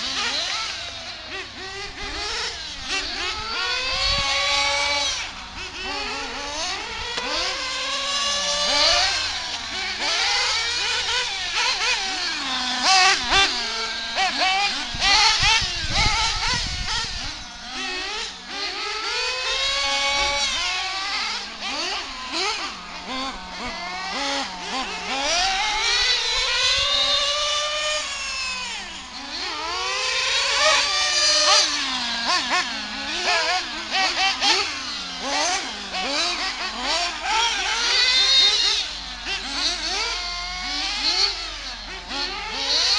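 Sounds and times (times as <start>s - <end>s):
small engines revving: 0.0s - 42.9s.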